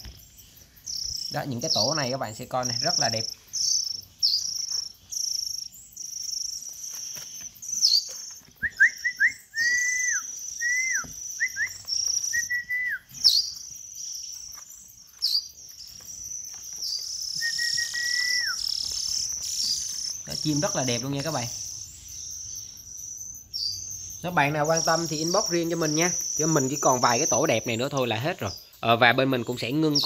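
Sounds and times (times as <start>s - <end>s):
nestlings high thin calling: 0.0s - 30.0s.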